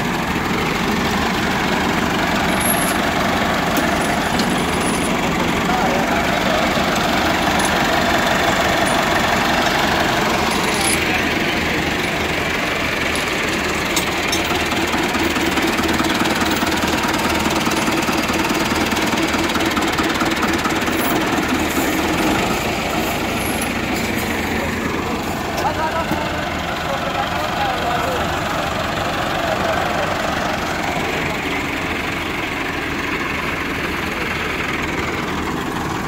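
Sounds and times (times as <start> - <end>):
tractor diesel engines running: 0.0 - 36.0.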